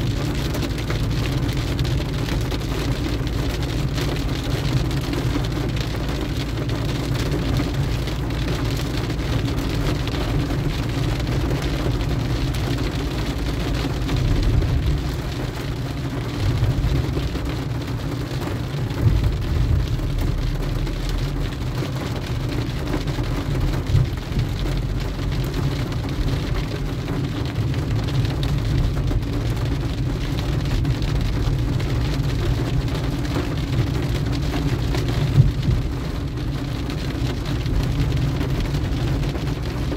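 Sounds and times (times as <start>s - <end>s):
engine and tyre rumble: 0.0s - 39.9s
rain on car roof: 0.0s - 39.9s.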